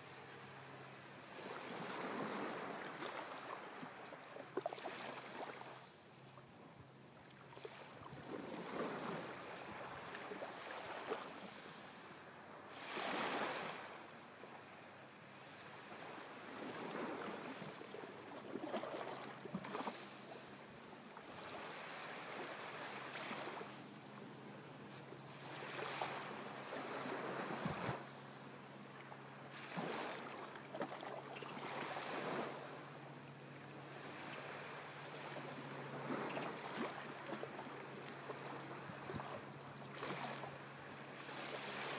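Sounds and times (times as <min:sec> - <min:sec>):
small waves washing on sandy shore: 0:00.0 - 0:05.8, 0:07.2 - 0:41.9.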